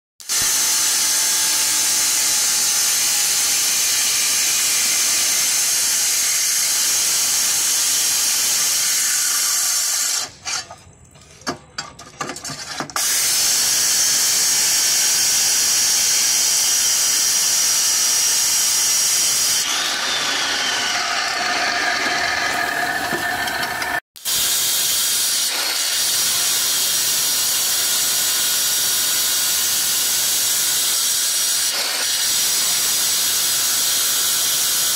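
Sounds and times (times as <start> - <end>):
circular saw cutting marble: 0.2 - 10.9, 12.4 - 34.9.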